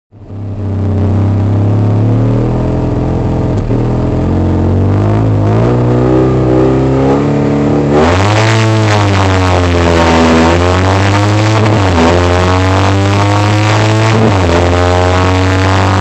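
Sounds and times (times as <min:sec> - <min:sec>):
car engine running: 0:00.1 - 0:16.0.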